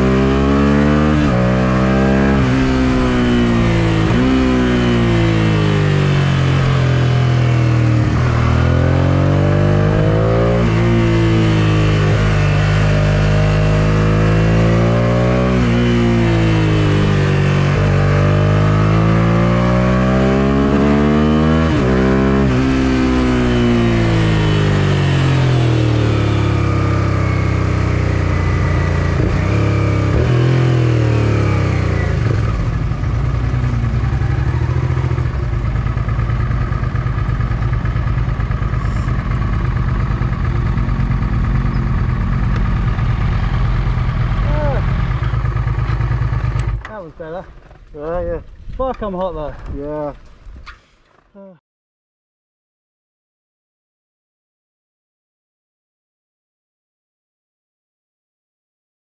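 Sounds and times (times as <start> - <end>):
motorcycle engine revving: 0.0 - 48.8.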